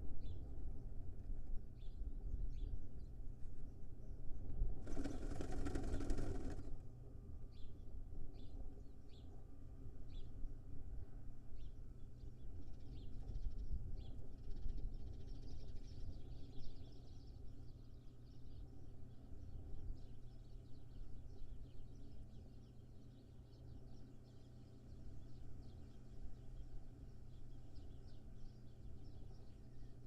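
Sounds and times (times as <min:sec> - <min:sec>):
steady low hum and rumble: 0:00.0 - 0:30.0.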